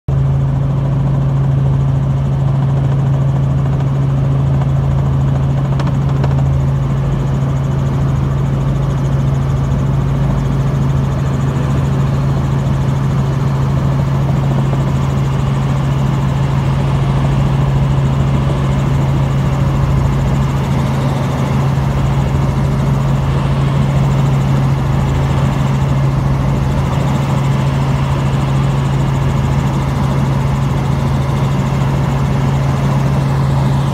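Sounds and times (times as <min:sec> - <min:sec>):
helicopter engine and rotors drone: 0:00.1 - 0:33.9.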